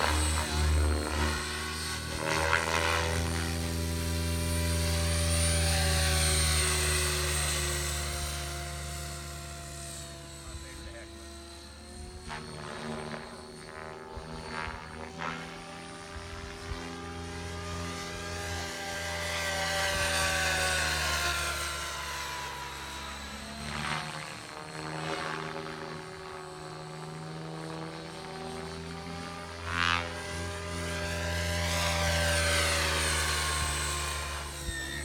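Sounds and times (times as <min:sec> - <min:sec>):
model helicopter rotor whine: 0:00.0 - 0:35.0.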